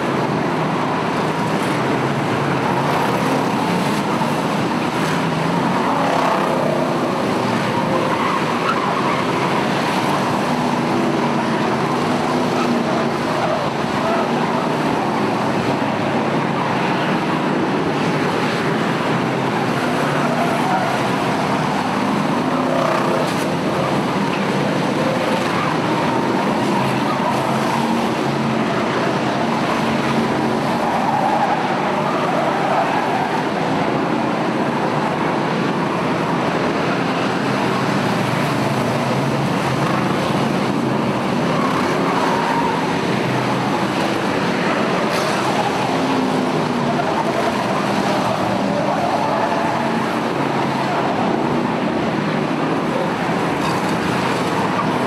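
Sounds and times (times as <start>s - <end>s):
racing car engines: 0.0s - 55.0s.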